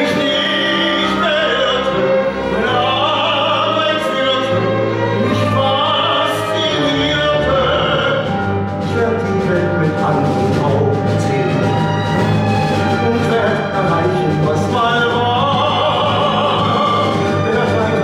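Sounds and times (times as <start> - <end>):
man singing: 0.0 - 11.9, 12.9 - 18.0
orchestral accompaniment: 0.0 - 18.0.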